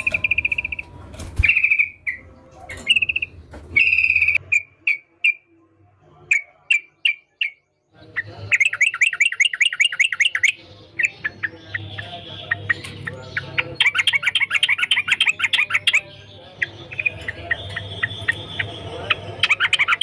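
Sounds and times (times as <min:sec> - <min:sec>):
bird chattering song: 0:00.0 - 0:05.6, 0:06.2 - 0:20.0.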